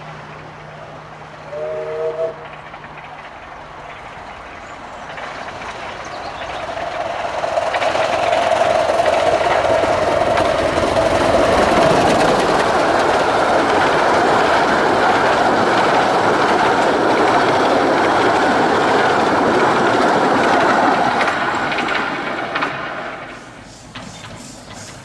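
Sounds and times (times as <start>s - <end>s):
wheels rumbling on rails: 0.0s - 25.0s.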